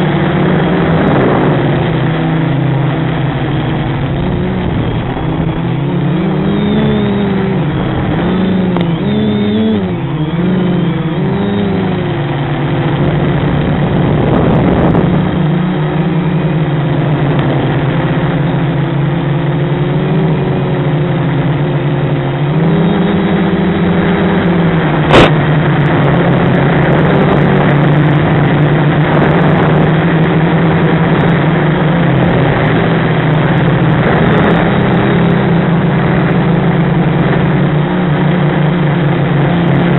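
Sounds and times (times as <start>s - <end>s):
drone motors and propellers: 0.0s - 39.9s.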